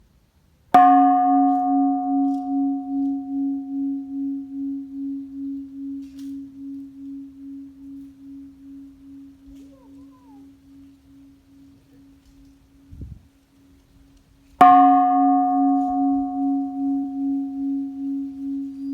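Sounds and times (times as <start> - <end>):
bell-like metal tone struck: 0.8 - 18.9.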